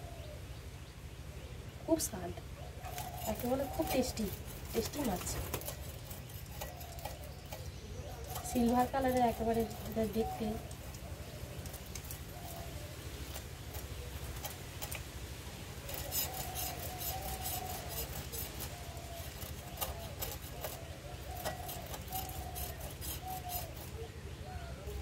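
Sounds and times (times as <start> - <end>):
blade scraping fish scales: 2.9 - 15.0, 15.8 - 24.0.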